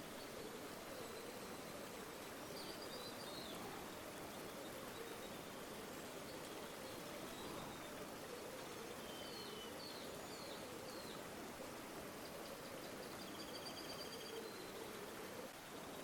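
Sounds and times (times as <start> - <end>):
faint bird chirps: 0.0 - 11.3, 12.1 - 16.0
river flowing: 0.0 - 16.0.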